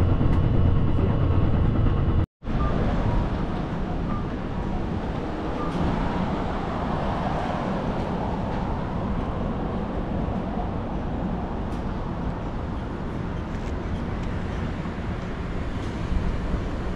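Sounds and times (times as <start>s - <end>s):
train on elevated railway: 0.0s - 16.9s
road traffic: 2.4s - 16.9s.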